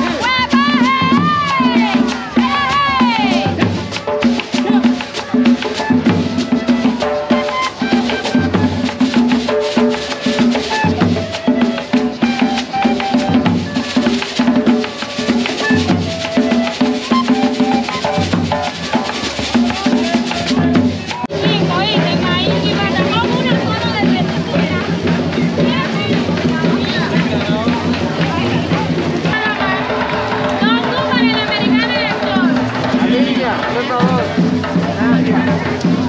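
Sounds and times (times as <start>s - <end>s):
upbeat percussive dance music: 0.0s - 36.0s.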